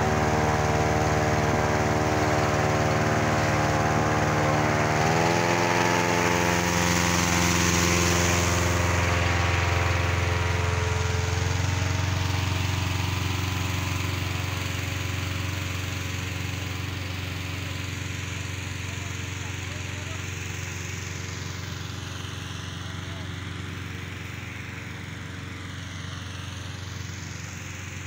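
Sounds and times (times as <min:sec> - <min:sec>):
petrol engine fan running: 0:00.0 - 0:28.0.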